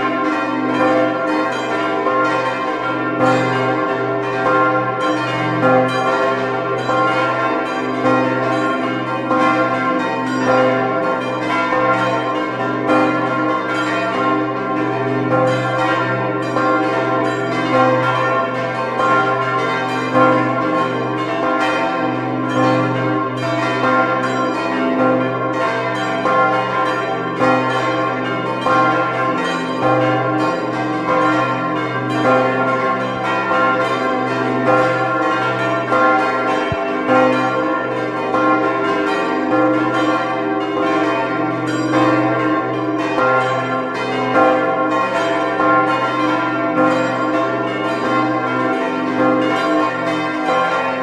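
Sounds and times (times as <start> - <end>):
church bells pealing: 0.0 - 51.0.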